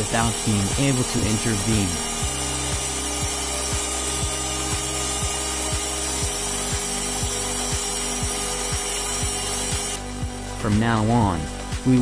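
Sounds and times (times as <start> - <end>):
handheld vacuum cleaner running: 0.0 - 10.4.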